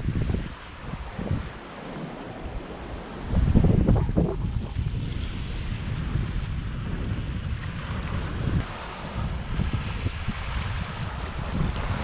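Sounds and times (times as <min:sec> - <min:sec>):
waves lapping stony shore: 0:00.0 - 0:12.0
wind buffeting microphone: 0:00.0 - 0:12.0.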